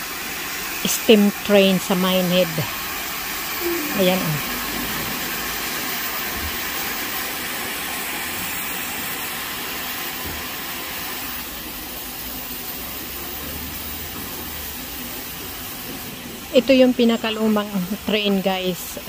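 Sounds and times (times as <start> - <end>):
locomotive steam hissing: 0.0 - 19.0.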